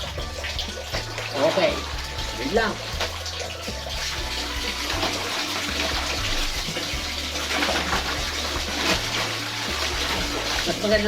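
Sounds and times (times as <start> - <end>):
water sloshing and running: 0.0 - 11.0.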